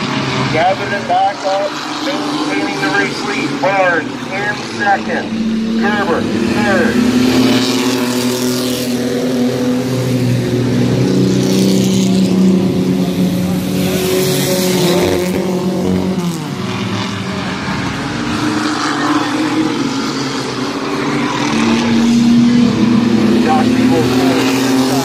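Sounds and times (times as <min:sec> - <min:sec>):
race engines revving past: 0:00.0 - 0:25.0.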